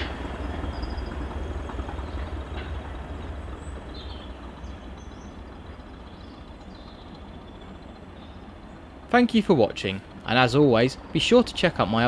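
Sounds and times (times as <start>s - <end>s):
diesel train engine rumbling: 0.0s - 12.0s.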